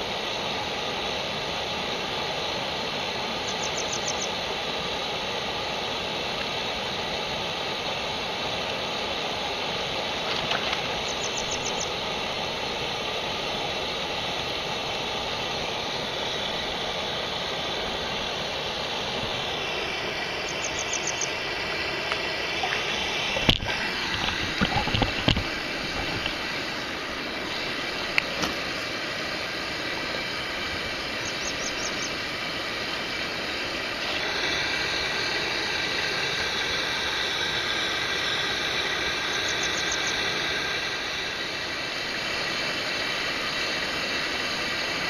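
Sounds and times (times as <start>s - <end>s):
stream water flowing: 0.0s - 45.0s.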